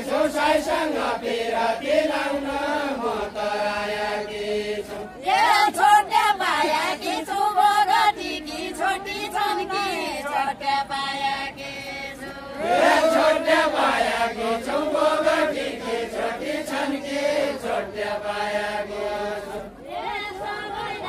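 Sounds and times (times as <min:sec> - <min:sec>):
group singing folk song: 0:00.0 - 0:21.0.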